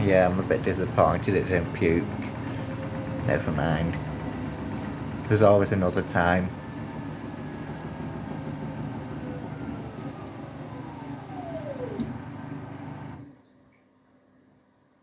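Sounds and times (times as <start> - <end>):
steady hum: 0.0 - 12.2
washing machine motor winding down: 0.0 - 13.3.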